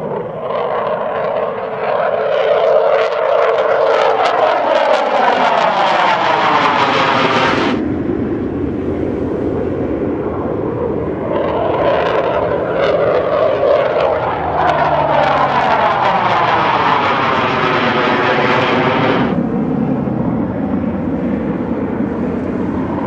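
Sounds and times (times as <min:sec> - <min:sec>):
jet aircraft engines roaring: 0:00.0 - 0:23.0.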